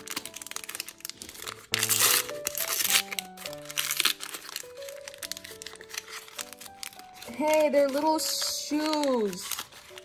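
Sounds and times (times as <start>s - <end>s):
background music with held notes: 0.0s - 10.0s
plastic packaging crinkling: 0.0s - 10.0s.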